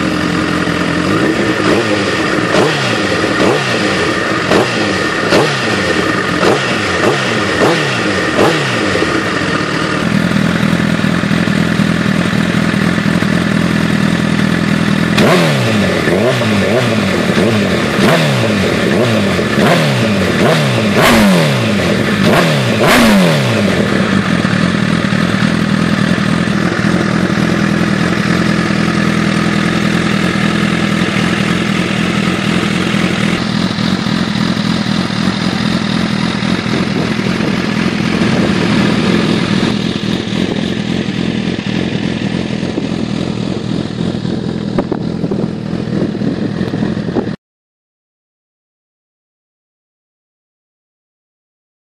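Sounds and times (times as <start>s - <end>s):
motorcycle engine revving and idling: 0.0s - 47.4s.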